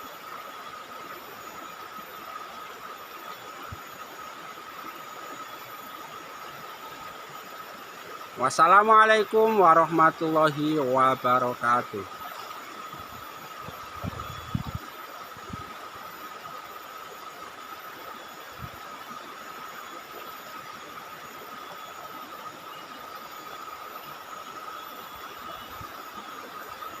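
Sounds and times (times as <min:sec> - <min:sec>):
steady high hum: 0:00.0 - 0:27.0.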